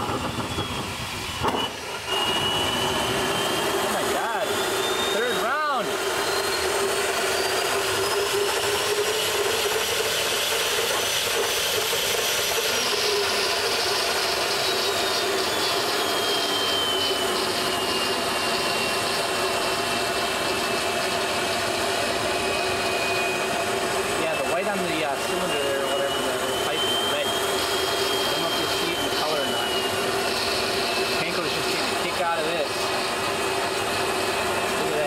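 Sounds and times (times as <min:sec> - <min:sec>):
high turbine whine: 0:00.0 - 0:35.0
jet engine roaring: 0:00.0 - 0:35.0.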